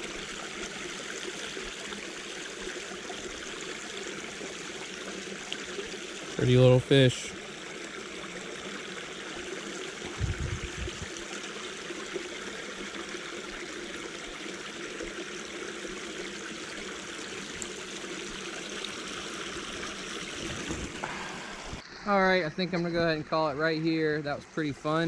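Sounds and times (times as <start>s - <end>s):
creek trickling: 0.0s - 21.8s.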